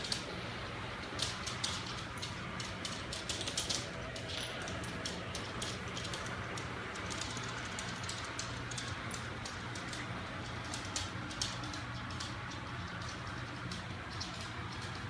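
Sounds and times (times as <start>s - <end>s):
light clicks and ticks: 0.0s - 15.0s.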